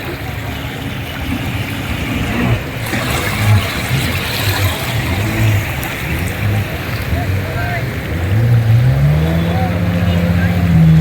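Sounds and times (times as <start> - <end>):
jet ski engine: 0.0 - 11.0
rushing splashing water: 0.0 - 11.0.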